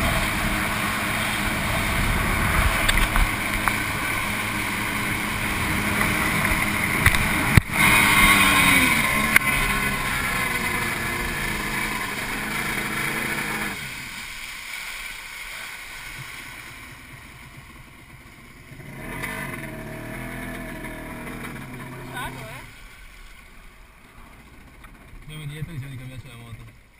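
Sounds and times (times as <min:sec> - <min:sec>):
water and wind rush: 0:00.0 - 0:24.7
jet ski engine running: 0:00.0 - 0:26.9.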